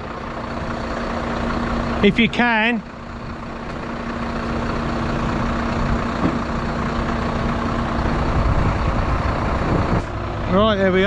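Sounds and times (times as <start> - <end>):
truck diesel engine humming: 0.0 - 11.0.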